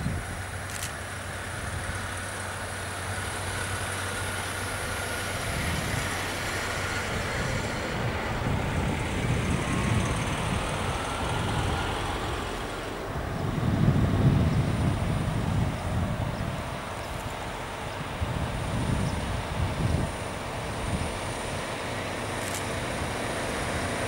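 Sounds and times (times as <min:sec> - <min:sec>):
diesel truck engine rumble: 0:00.0 - 0:24.0.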